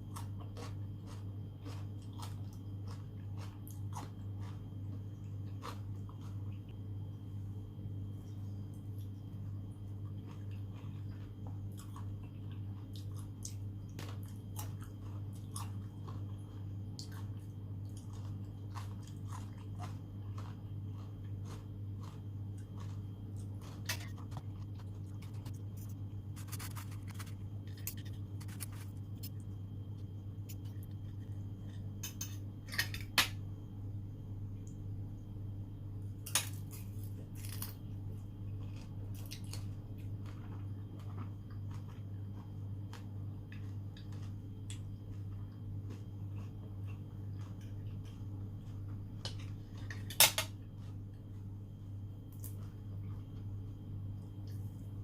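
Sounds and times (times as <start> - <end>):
close chewing and wet mouth sounds: 0.0 - 6.8, 8.2 - 31.8, 38.1 - 55.0
steady low hum: 0.0 - 55.0.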